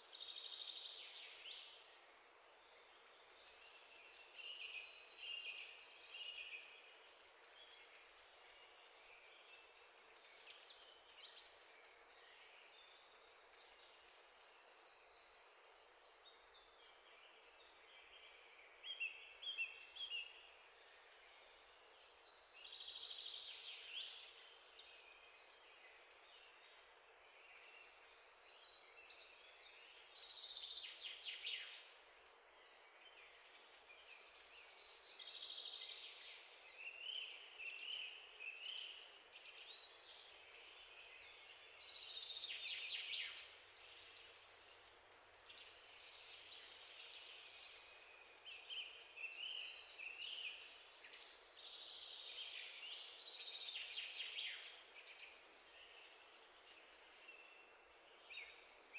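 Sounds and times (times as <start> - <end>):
low hiss: 0.0 - 58.9.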